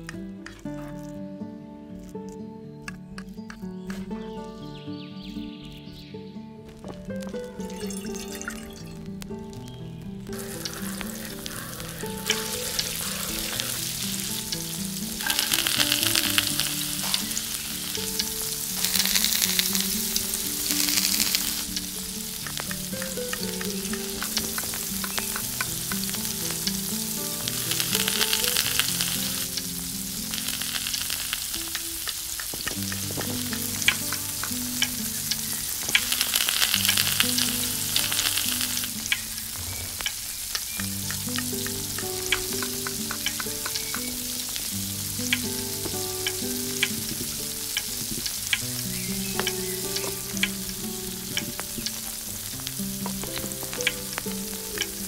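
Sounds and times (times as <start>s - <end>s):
melodic background music: 0.0s - 55.0s
hot oil sizzling in pan: 7.2s - 55.0s.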